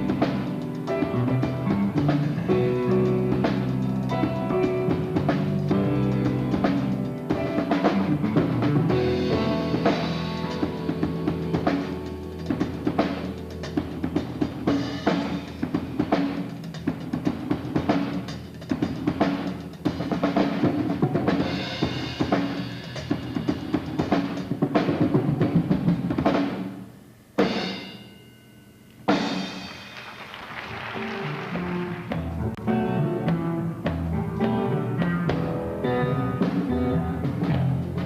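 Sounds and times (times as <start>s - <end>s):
pitched instrumental backing: 0.0s - 26.7s, 30.9s - 38.0s
drum kit hits and rolls: 0.0s - 28.1s, 29.1s - 38.0s.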